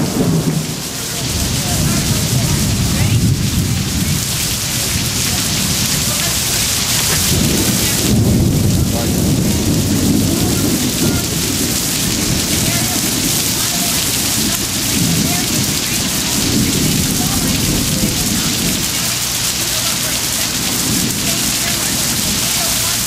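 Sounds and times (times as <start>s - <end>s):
heavy rain hissing: 0.0s - 23.0s
wind buffeting microphone: 0.0s - 23.0s.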